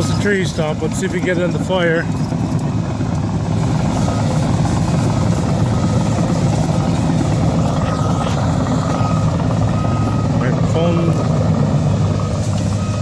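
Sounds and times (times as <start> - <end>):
excavator diesel engine under load: 0.0 - 13.0.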